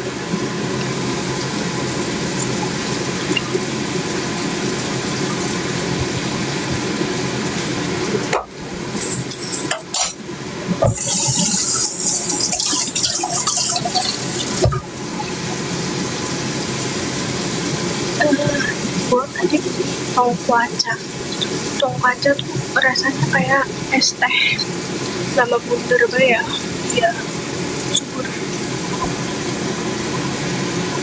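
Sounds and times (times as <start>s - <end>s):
high sizzling: 0.0s - 31.0s
steady cooking hiss: 0.0s - 31.0s.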